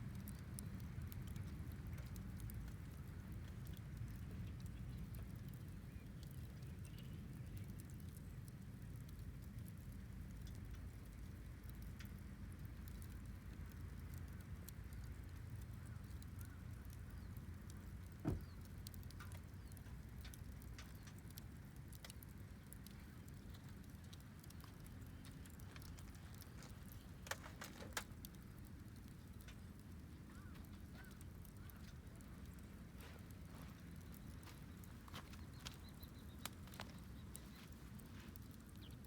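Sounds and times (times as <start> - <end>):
low steady rumble: 0.0 - 39.0
wood fire crackling and popping: 0.0 - 39.0.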